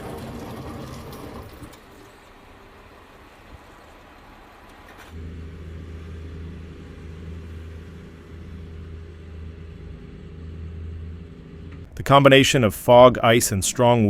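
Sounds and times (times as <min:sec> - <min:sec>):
low vehicle engine rumble: 0:00.0 - 0:13.0.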